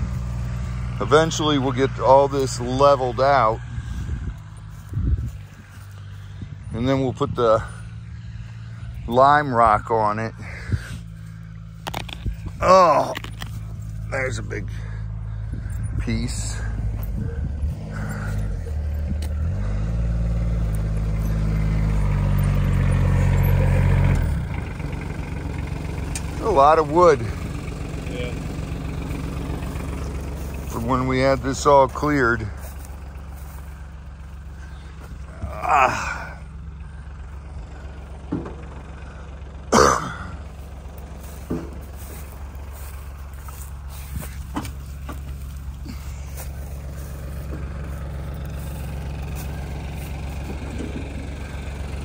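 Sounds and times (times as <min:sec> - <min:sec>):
utility vehicle engine running: 0:00.0 - 0:52.0.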